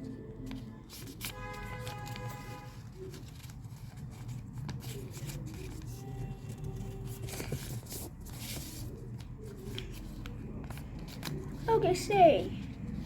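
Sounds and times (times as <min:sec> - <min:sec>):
paper folding and creasing: 0:00.0 - 0:13.0
paper rustle: 0:00.0 - 0:13.0.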